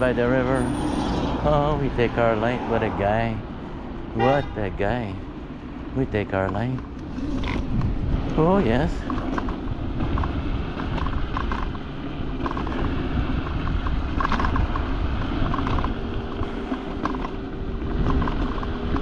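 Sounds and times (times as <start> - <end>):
steady hum: 0.0 - 18.0
low rumble of tyres: 0.0 - 19.0
scooter rattling and creaking: 0.0 - 19.0.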